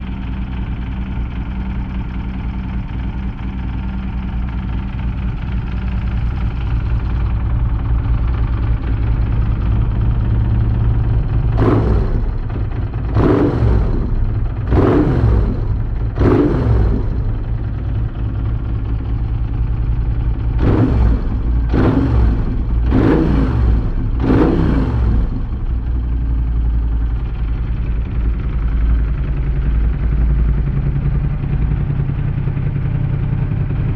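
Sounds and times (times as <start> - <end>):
v-twin motorcycle engine revving: 0.2 - 29.4.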